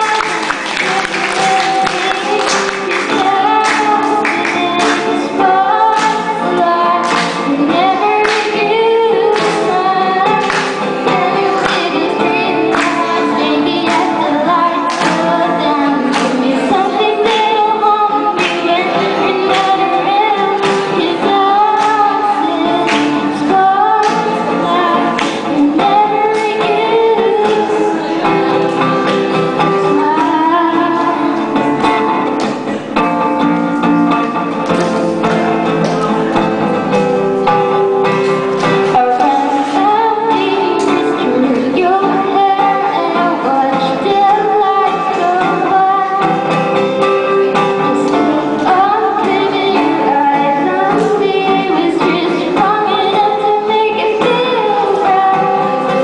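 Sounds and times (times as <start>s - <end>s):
woman singing pop ballad: 0.0s - 32.7s, 38.0s - 56.0s
acoustic guitar strumming: 0.0s - 56.0s.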